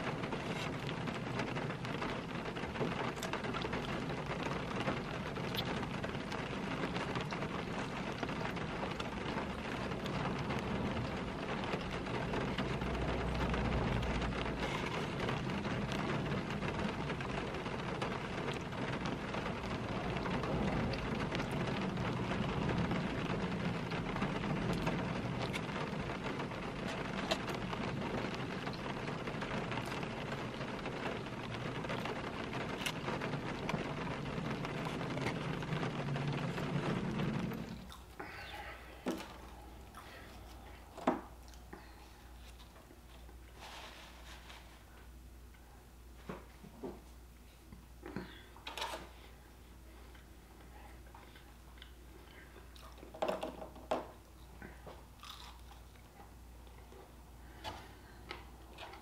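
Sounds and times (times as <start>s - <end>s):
rain on car roof: 0.0s - 45.4s, 56.4s - 59.0s.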